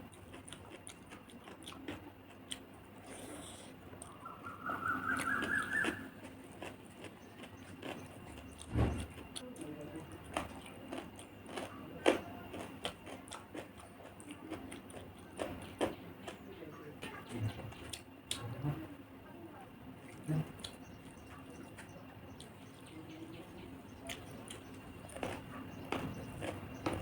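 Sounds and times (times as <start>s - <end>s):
chewing: 0.0s - 18.8s, 20.0s - 27.0s.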